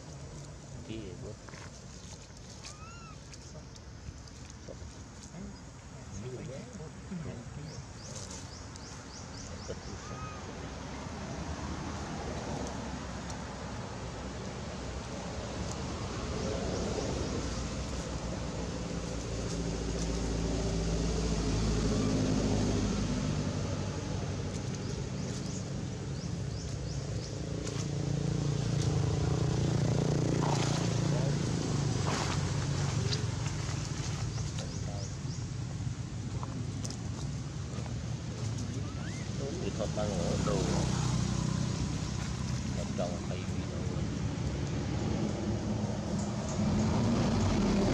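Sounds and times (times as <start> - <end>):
low engine hum: 0.0 - 47.9
low wind rumble: 0.0 - 47.9.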